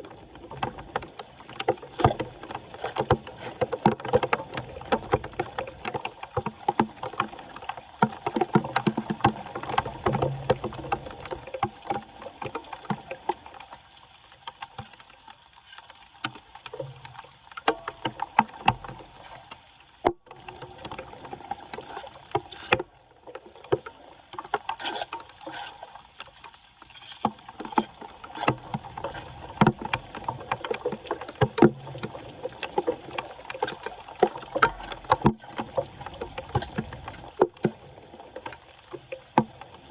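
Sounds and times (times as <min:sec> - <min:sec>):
floodwater splashing and sloshing: 0:00.0 - 0:39.9.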